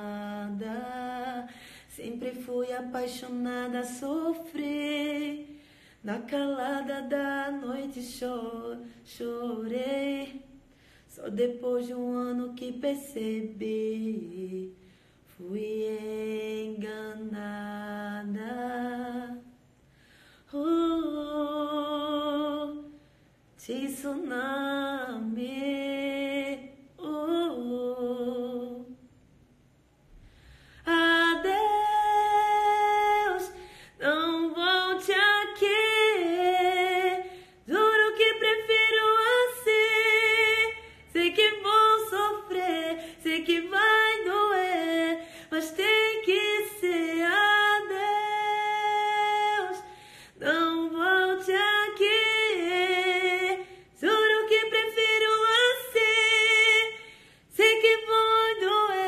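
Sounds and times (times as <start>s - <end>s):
woman singing unaccompanied: 0.0s - 19.6s, 20.5s - 23.0s, 23.6s - 29.1s, 30.8s - 59.0s.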